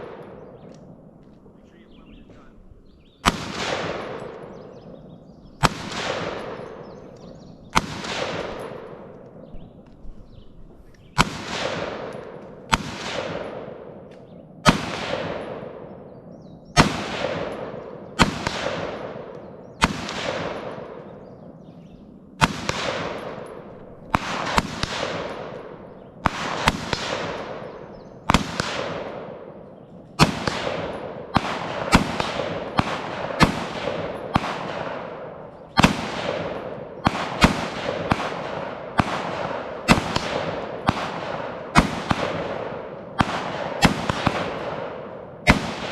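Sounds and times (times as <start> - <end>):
rifle shots echoing: 0.0 - 45.9.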